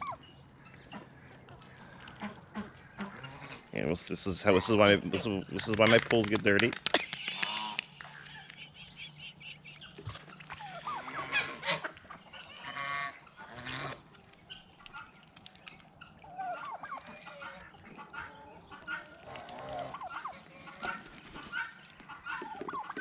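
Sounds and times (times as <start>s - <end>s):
ducks honking: 0.0s - 6.6s, 7.2s - 23.0s.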